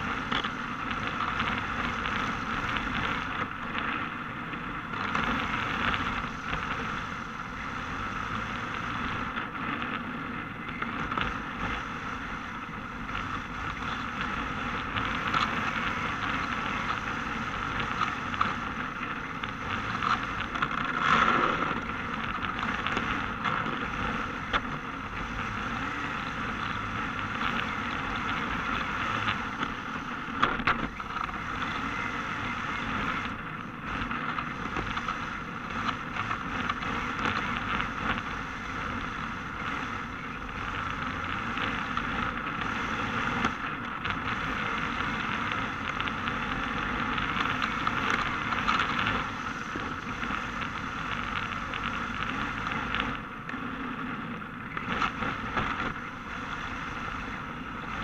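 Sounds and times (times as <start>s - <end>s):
mid-pitched motor hum: 0.0s - 58.0s
wind and tyres on asphalt: 0.0s - 58.0s.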